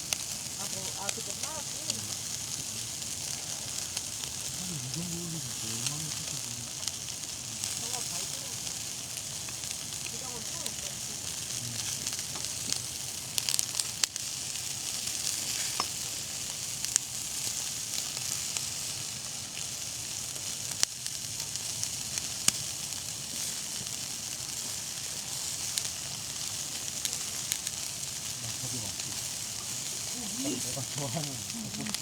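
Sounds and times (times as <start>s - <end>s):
food sizzling in pan: 0.0s - 32.0s.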